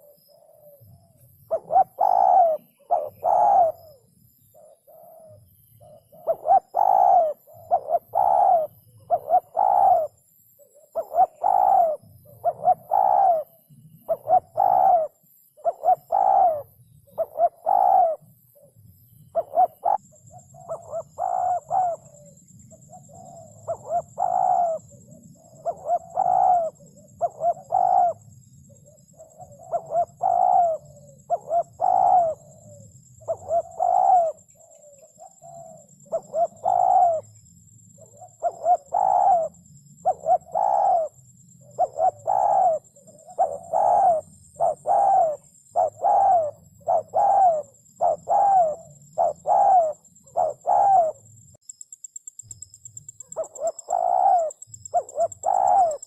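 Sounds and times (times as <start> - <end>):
dove cooing: 0.0 - 51.4, 53.2 - 56.0.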